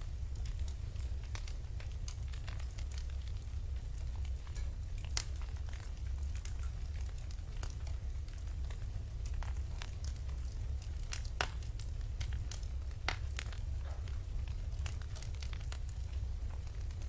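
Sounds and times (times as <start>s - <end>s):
low fire rumble: 0.0s - 17.0s
sharp crack of fire: 0.0s - 17.0s
wood fire crackling: 0.0s - 17.0s.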